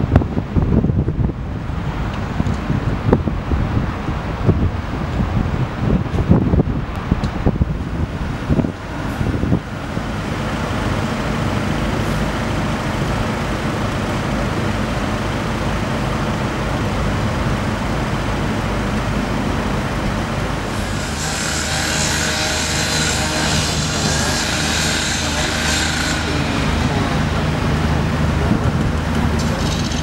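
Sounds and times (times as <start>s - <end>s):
diesel machinery rumbling: 0.0s - 30.0s.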